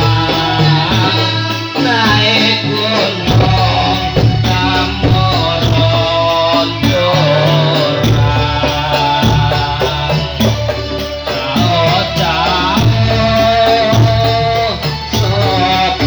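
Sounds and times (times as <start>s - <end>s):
drums and percussion beat: 0.0s - 16.0s.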